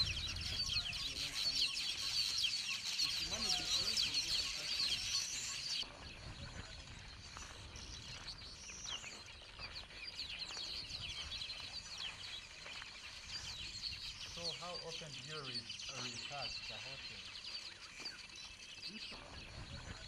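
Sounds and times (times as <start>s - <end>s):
small birds chirping chorus: 0.0s - 20.0s.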